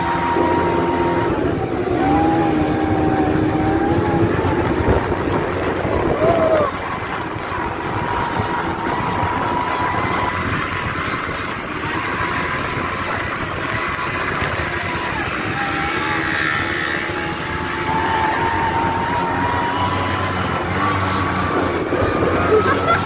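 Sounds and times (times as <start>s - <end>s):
quad bike engine running: 0.0s - 23.0s
wind noise on microphone: 0.0s - 23.0s.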